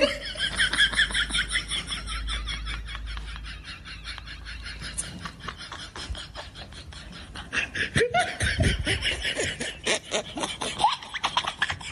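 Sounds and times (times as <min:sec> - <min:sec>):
bursts of laughter: 0:00.0 - 0:11.9.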